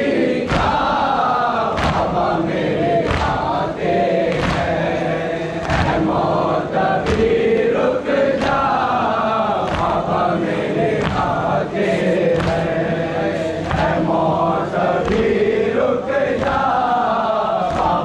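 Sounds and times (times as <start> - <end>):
crowd chanting together: 0.0 - 18.0.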